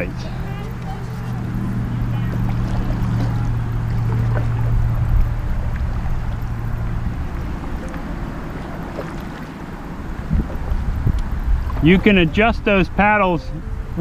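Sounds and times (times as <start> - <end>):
water drips and splashes: 0.0 - 12.6
low hum: 0.0 - 14.0
paddle strokes in water: 0.0 - 14.0.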